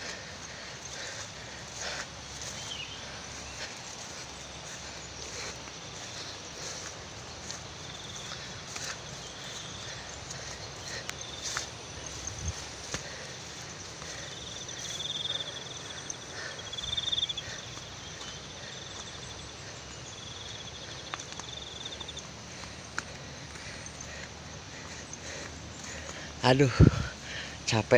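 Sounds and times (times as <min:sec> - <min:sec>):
footsteps through vegetation: 0:00.0 - 0:27.9
high insect whine: 0:00.0 - 0:27.9
insects trilling in pulsing bursts: 0:00.0 - 0:27.9.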